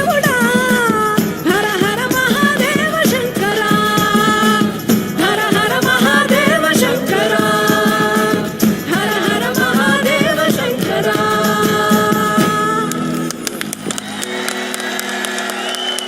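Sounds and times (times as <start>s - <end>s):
band with percussion: 0.0s - 16.0s.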